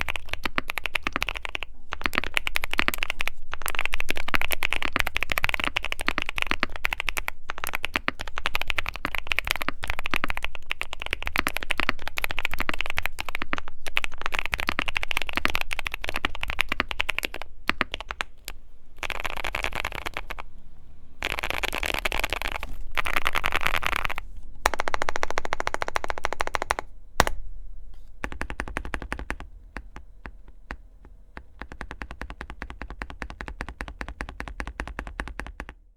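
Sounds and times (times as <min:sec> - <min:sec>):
mechanical keyboard typing: 0:00.0 - 0:20.4, 0:21.2 - 0:27.3, 0:28.2 - 0:35.8.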